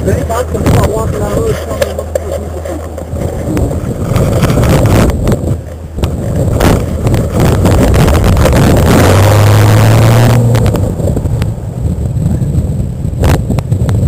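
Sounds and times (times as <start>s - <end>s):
car engine revving: 0.0s - 13.4s.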